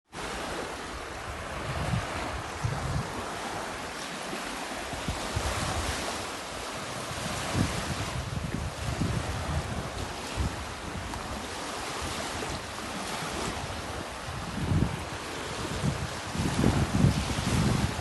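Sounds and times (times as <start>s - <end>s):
sea waves washing onto beach: 0.1s - 18.0s
wind buffeting microphone: 0.4s - 18.0s.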